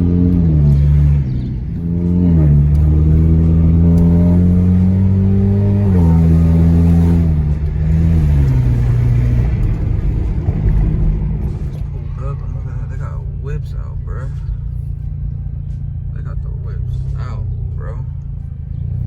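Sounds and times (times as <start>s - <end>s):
loud car exhaust accelerating: 0.0s - 19.0s.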